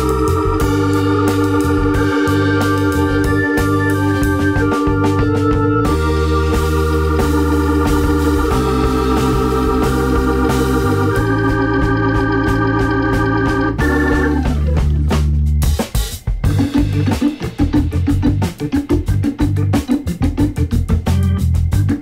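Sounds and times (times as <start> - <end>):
sustained music chords: 0.0 - 22.0.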